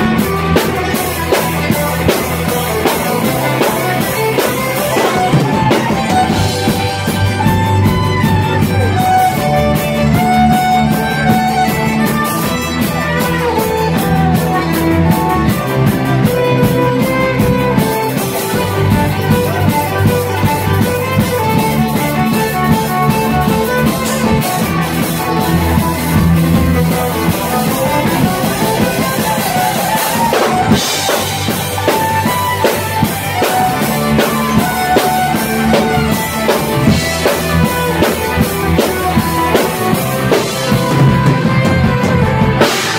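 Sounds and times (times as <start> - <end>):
bass guitar: 0.0 - 42.9
electric guitar: 0.0 - 42.9
fast drumming: 0.0 - 42.9
fiddle: 0.0 - 42.9.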